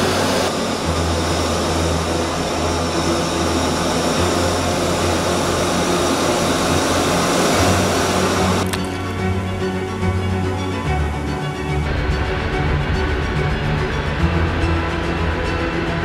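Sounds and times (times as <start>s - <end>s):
aircraft engine and airflow rushing: 0.0s - 16.0s
low drone: 0.0s - 16.0s.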